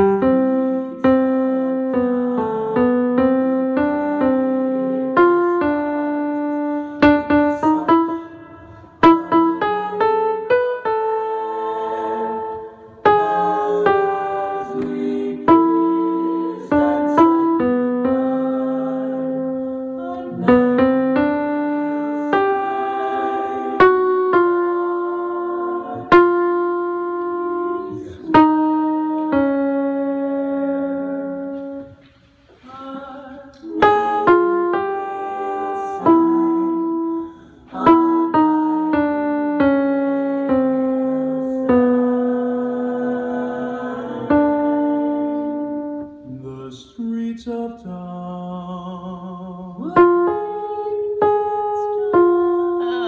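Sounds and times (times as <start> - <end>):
piano playing slow melody: 0.0 - 32.1, 33.6 - 46.6, 49.2 - 53.0.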